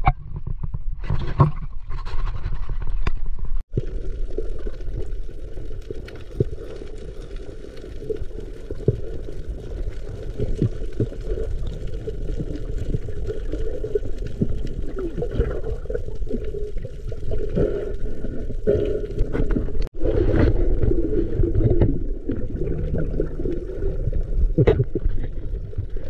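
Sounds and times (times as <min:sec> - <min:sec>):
water noise: 0:00.0 - 0:26.0
muffled underwater rumble: 0:02.7 - 0:26.0.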